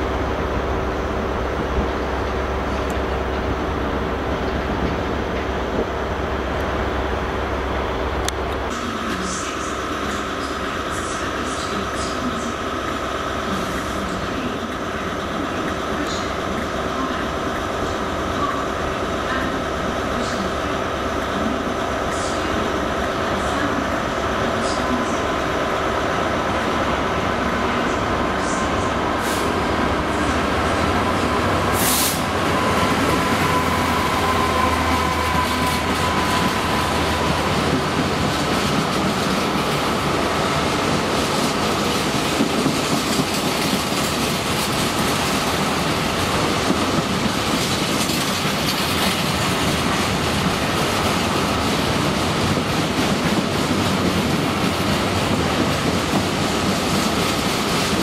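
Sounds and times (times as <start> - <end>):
diesel locomotive running: 0.0 - 58.0.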